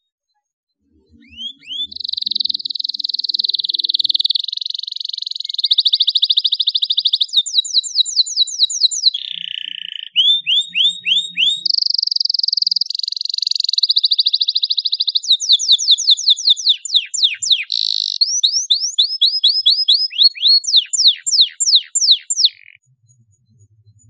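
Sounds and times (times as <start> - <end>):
canary singing: 1.1 - 22.8.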